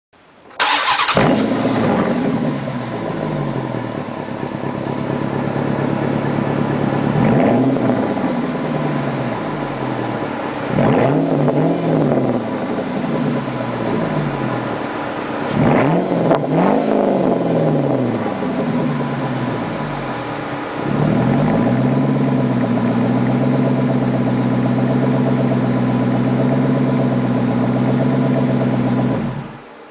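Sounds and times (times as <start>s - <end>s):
car engine idling: 0.2s - 29.9s
car engine revving: 0.6s - 29.8s.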